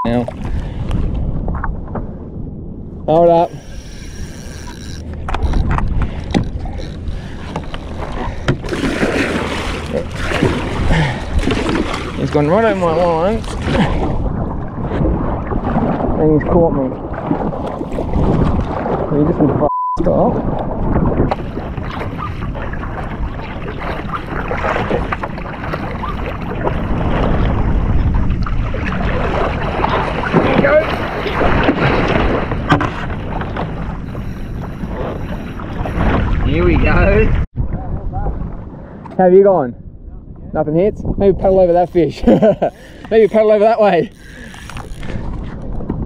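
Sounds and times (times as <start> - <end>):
wind on microphone: 0.0 - 43.4, 44.0 - 46.0
water sloshing around a kayak: 3.3 - 19.5, 20.1 - 37.5, 42.1 - 46.0.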